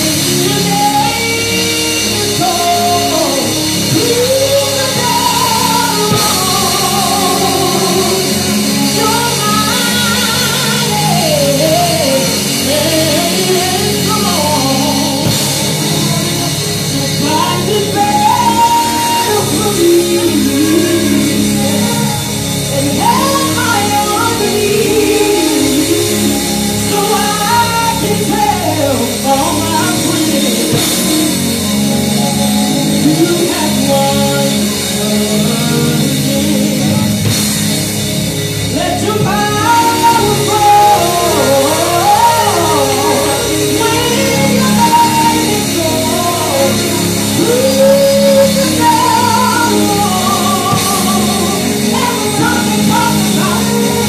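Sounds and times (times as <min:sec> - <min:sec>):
lead voice singing: 0:00.0 - 0:54.0
band with drums: 0:02.0 - 0:54.0.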